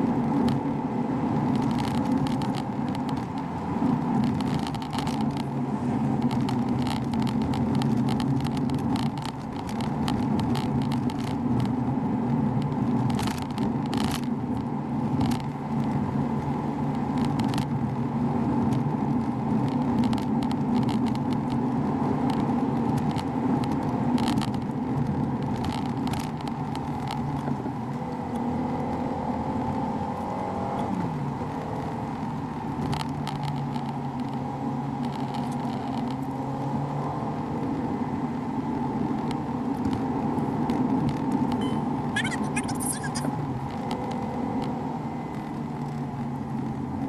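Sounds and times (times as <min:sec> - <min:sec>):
car engine from cabin: 0:00.0 - 0:47.0.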